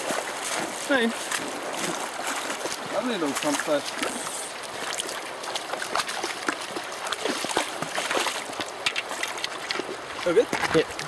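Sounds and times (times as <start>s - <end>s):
river running over stones: 0.0s - 11.0s
small water splashes: 0.0s - 11.0s.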